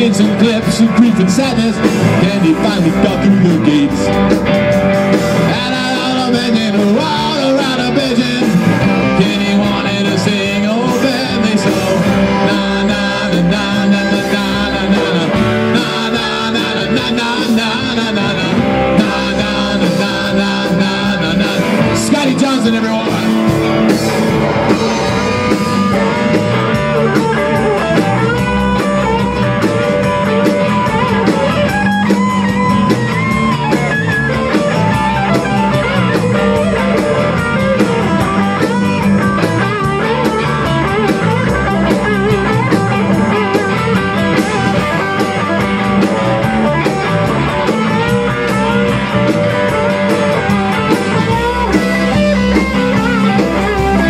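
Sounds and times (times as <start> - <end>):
drum kit: 0.0 - 54.0
electric guitar solo: 0.0 - 54.0
rhythm electric guitar: 0.0 - 54.0.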